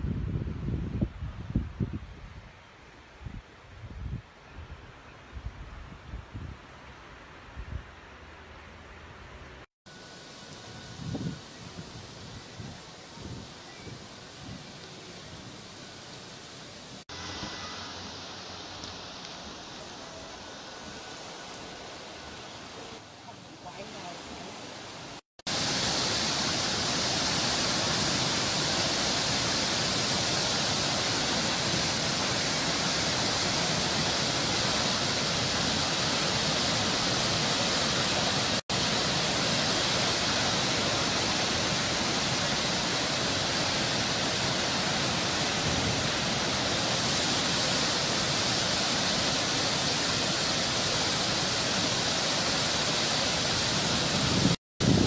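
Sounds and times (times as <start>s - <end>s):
floodwater rushing: 10.0s - 55.0s.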